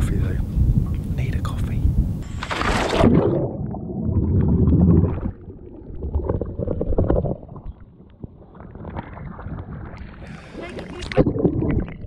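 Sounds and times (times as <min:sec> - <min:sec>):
water sloshing and gurgling: 0:02.2 - 0:12.0.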